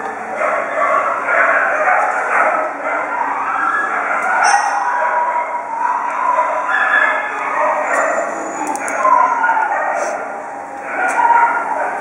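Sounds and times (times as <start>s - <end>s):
dogs whining and howling: 0.2s - 12.0s.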